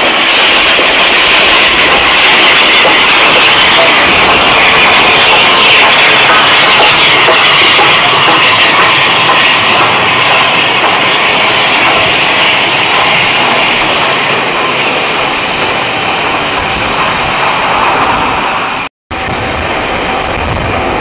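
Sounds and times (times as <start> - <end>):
train running past: 0.0 - 21.0.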